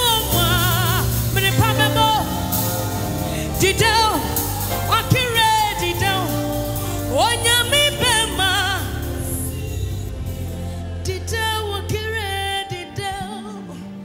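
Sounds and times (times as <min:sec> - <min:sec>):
gospel band playing: 0:00.0 - 0:14.0.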